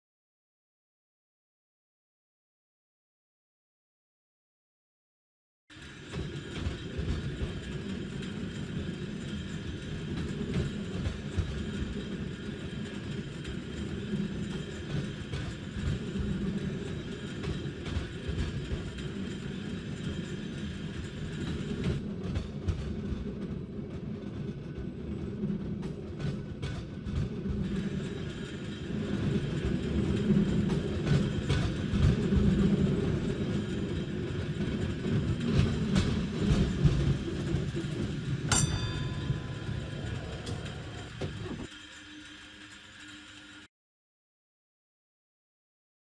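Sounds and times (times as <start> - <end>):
tram rumbling along rails: 5.7 - 43.6.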